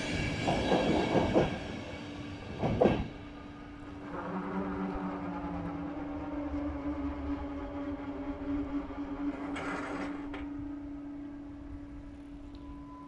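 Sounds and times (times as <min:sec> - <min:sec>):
train running with low rumble: 0:00.0 - 0:13.0.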